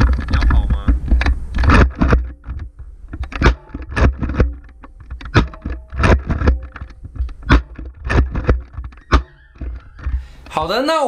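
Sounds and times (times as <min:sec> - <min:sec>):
foam dart blasters clacking: 0:00.0 - 0:09.8
low rumble of movement: 0:00.0 - 0:10.3.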